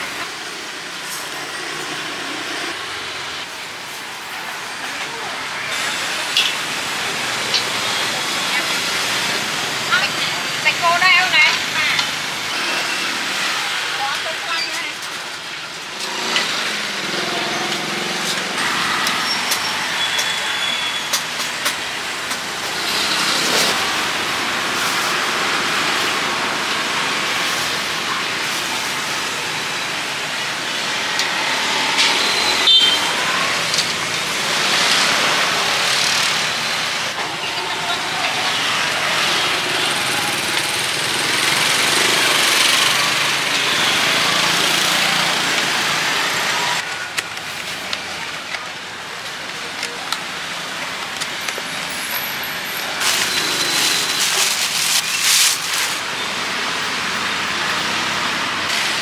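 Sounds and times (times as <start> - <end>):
motorbikes and cars passing: 0.0 - 59.0.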